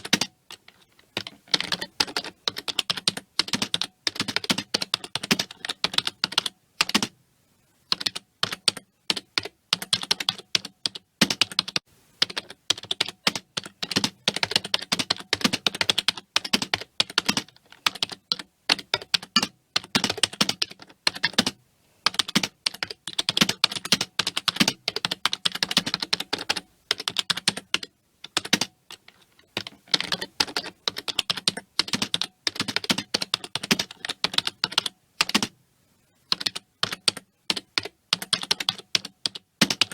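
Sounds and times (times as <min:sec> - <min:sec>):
keyboard typing: 0:00.0 - 0:07.1, 0:07.9 - 0:35.6, 0:36.3 - 0:39.9.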